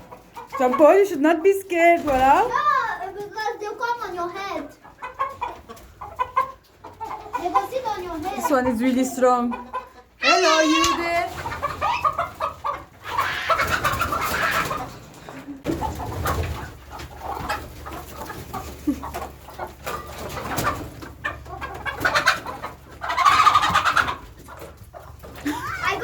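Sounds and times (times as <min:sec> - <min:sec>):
chickens clucking and squawking: 0:00.0 - 0:26.0.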